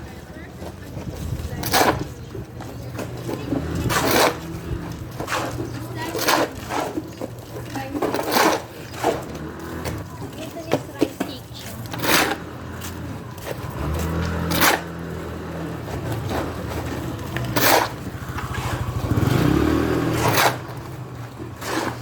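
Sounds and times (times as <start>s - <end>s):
loud scrapes: 3.0s - 10.3s, 11.6s - 22.0s.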